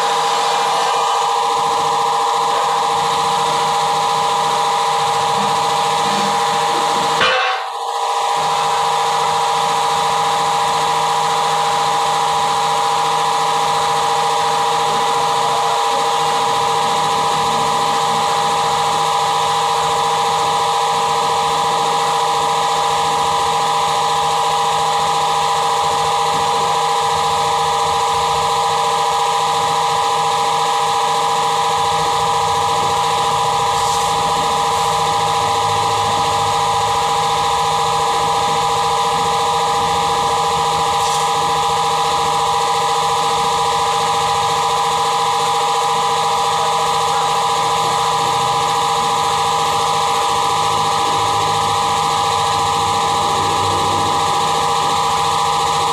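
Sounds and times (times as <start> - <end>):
milling machine cutting steel: 0.0 - 27.7, 28.4 - 55.9
steady machine whine: 0.0 - 55.9.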